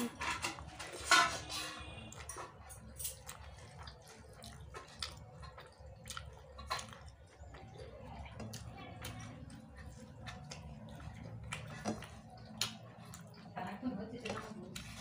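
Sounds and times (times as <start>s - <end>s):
fingers mixing rice on plate: 0.0s - 13.6s, 14.2s - 15.0s
soft chewing: 0.0s - 15.0s.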